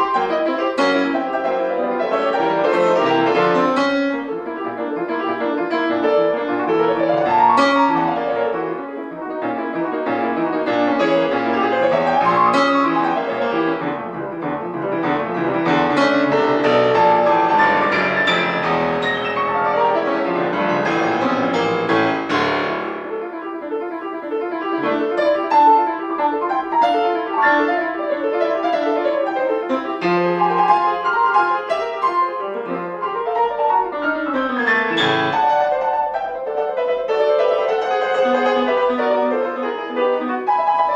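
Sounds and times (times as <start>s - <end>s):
solo grand piano: 0.0s - 40.9s.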